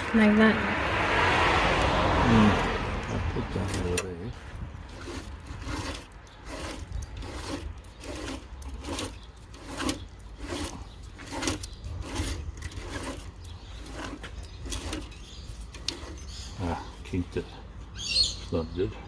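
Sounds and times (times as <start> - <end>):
wire rubbing and scraping: 1.8 - 17.2.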